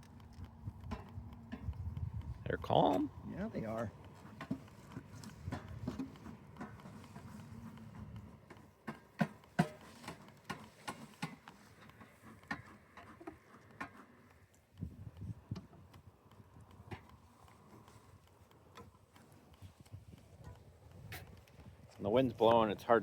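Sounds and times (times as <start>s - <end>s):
light clicks and taps: 0.0s - 23.0s.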